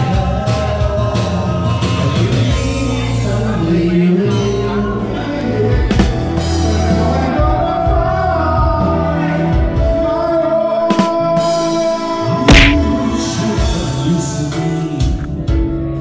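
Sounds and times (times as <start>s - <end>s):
loud backing track over speakers: 0.0s - 16.0s
man singing into a microphone: 0.0s - 16.0s.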